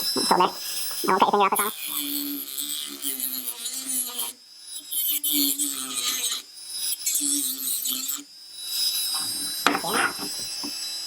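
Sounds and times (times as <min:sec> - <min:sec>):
rotary tool cutting plastic: 0:00.0 - 0:10.9.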